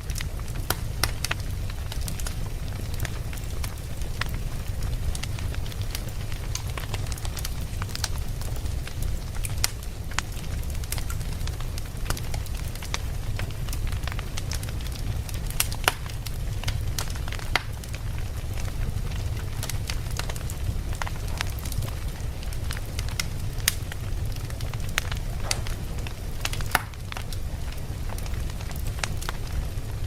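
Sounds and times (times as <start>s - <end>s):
burning wood crackling and popping: 0.0s - 30.0s
campfire flames rumbling: 0.0s - 30.0s.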